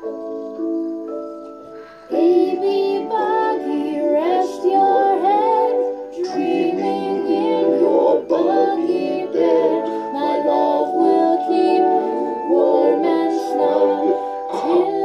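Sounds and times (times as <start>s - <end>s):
lullaby sung over soft music: 0.0s - 15.0s.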